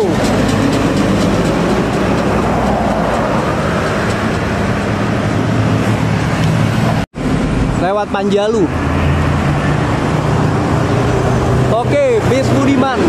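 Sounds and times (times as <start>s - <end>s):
diesel coach engine drone: 0.0s - 13.0s
tyre and road noise: 0.0s - 13.0s.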